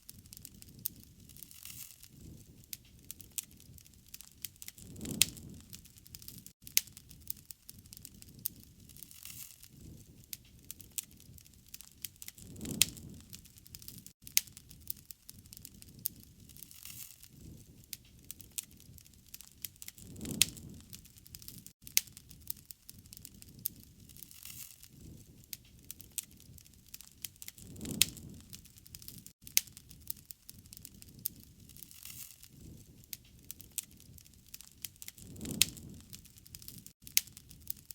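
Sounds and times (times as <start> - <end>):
wood fire crackling and popping: 0.0 - 37.9
low rumble of flames: 0.1 - 37.9
low rushing fire: 0.1 - 37.9.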